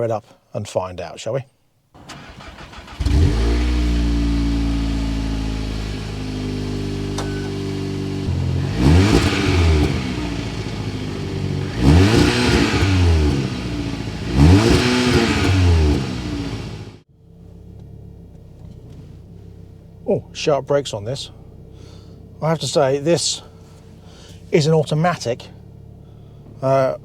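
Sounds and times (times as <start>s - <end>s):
car engine starting and revving: 2.0s - 20.6s, 21.2s - 27.0s.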